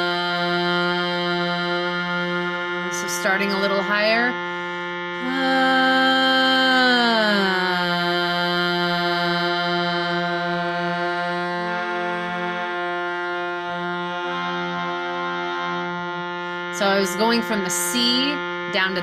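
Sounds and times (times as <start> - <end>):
shruti box drone: 0.0 - 19.0
woman singing a held tone: 0.0 - 19.0.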